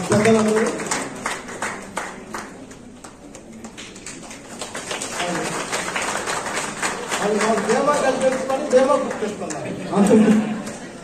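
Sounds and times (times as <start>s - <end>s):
small crowd clapping: 0.0s - 11.0s.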